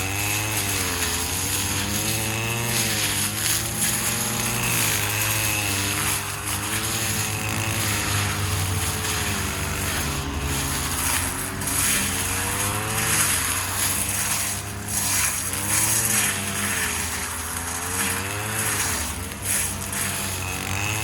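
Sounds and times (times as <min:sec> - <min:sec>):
brushcutter engine revving: 0:00.0 - 0:21.0.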